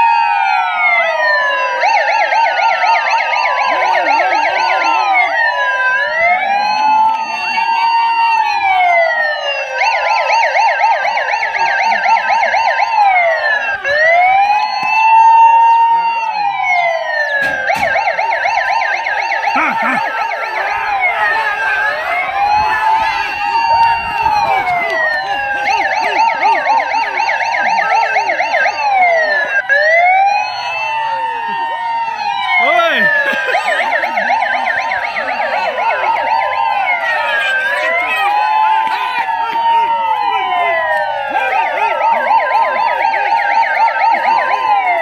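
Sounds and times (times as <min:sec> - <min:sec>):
electronic siren wailing and yelping: 0:00.0 - 0:45.0.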